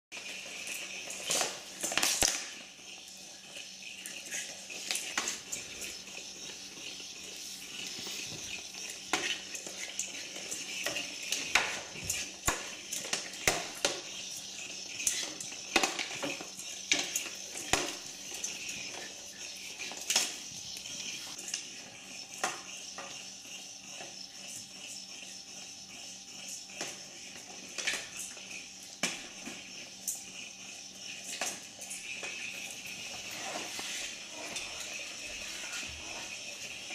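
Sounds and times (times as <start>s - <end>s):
toy ball whirring: 0.1s - 36.9s.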